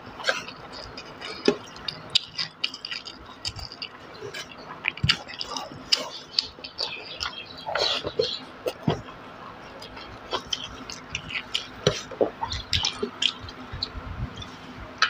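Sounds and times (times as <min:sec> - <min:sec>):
fingers squishing rice and curry: 0:00.2 - 0:13.7.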